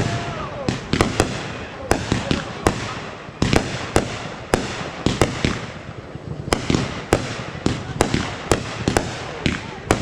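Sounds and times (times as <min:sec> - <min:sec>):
fireworks bangs: 0:00.0 - 0:10.0
fireworks crackle: 0:00.0 - 0:10.0.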